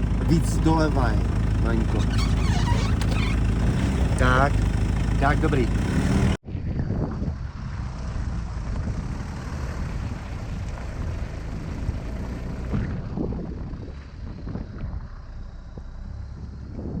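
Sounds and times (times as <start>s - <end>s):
off-road vehicle engine and tyres rumbling: 0.0s - 17.0s.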